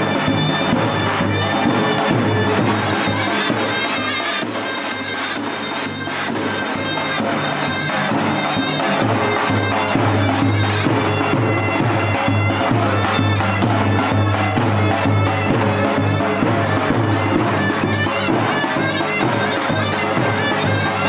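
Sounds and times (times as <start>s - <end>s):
reed wind instrument melody: 0.0s - 21.0s.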